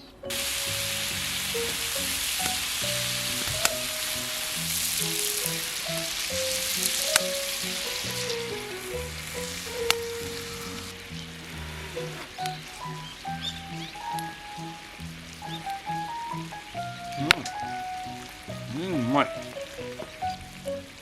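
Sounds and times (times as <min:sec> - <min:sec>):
background music: 0:00.0 - 0:21.0
meat sizzling over fire: 0:00.2 - 0:21.0.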